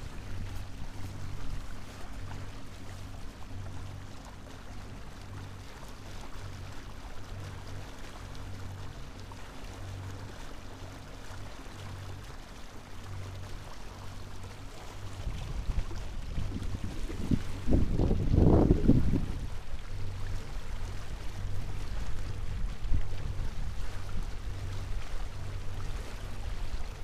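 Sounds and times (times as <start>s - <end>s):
boat engine humming: 0.0s - 27.0s
water rushing along hull: 0.0s - 27.0s.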